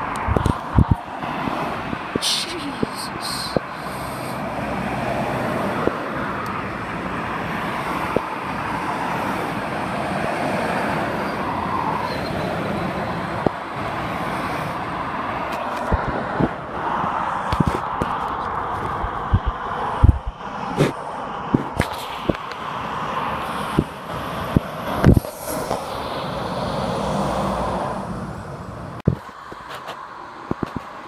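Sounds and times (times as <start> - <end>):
road traffic noise: 0.0 - 31.0
lorry passing: 0.1 - 30.2.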